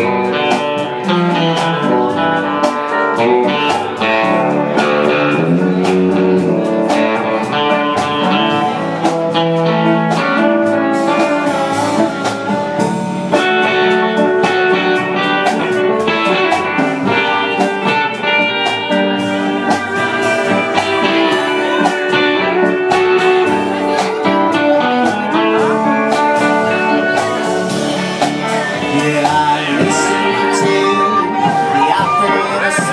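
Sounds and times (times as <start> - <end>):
country band playing: 0.0 - 32.9.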